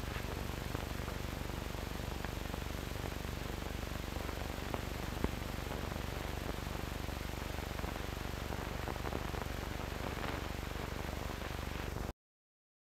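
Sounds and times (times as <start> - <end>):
faint crackle: 0.0 - 12.1
film soundtrack hiss and hum: 0.0 - 12.1.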